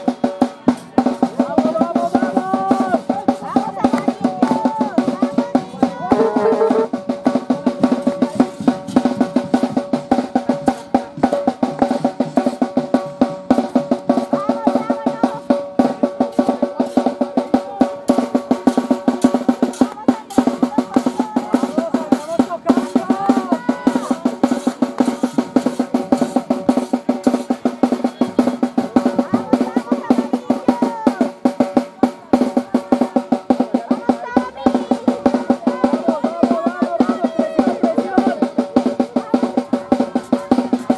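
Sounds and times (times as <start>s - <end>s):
drums beaten fast: 0.0s - 40.9s.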